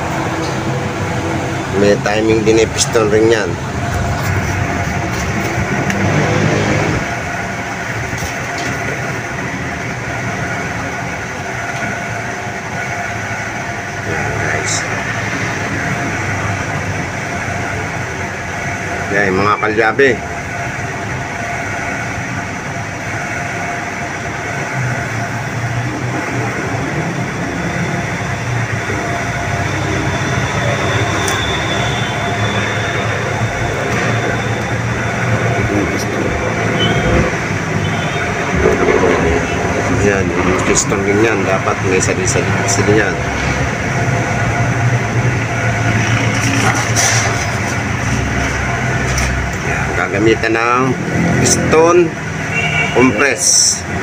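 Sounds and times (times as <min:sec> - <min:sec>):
mechanical rumble and hiss: 0:00.0 - 0:52.6.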